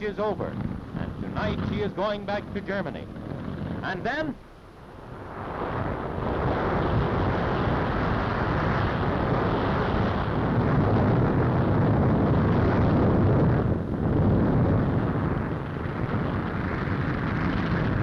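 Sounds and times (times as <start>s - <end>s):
heavy rumble of fire and explosion: 0.0s - 18.0s.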